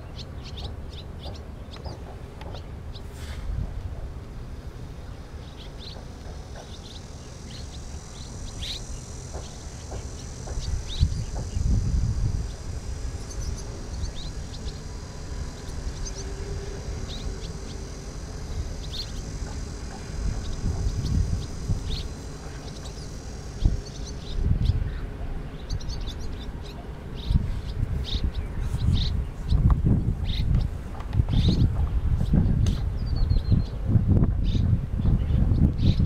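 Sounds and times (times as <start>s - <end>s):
swallows chirping: 0.0s - 3.4s, 4.7s - 33.8s, 34.4s - 36.0s
wind rumbling on microphone: 0.0s - 36.0s.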